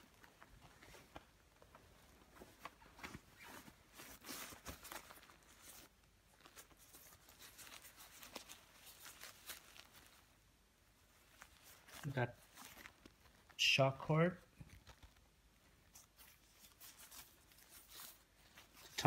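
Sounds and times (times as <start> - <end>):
fabric rustling and crinkling: 0.0 - 19.0.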